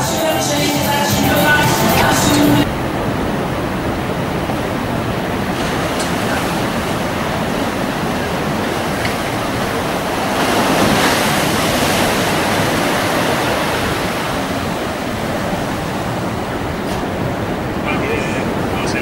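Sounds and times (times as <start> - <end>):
sea water rushing: 0.9 - 19.0
wind: 2.1 - 19.0.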